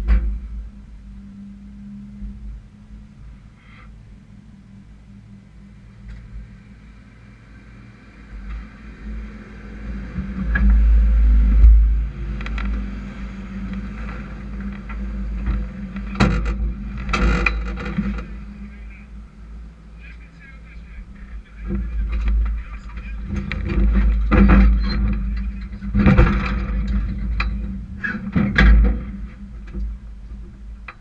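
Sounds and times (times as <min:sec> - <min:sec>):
race truck engines passing: 0:00.0 - 0:31.0.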